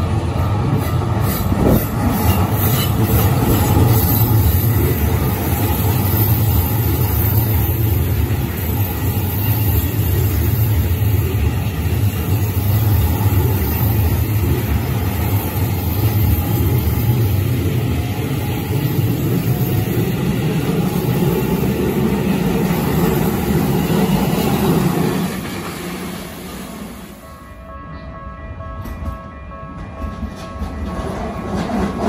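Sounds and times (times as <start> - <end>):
electric train passing on rails: 0.0 - 32.0.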